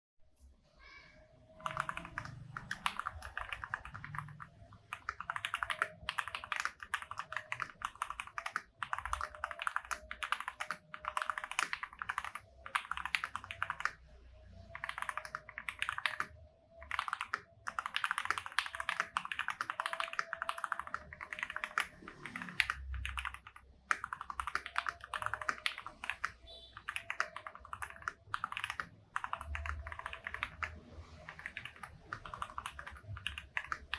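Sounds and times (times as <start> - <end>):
fast mechanical keyboard typing: 1.5 - 33.9.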